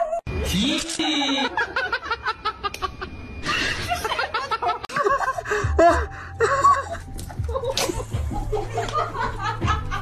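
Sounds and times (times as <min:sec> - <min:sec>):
person laughing hard: 0:00.9 - 0:10.0.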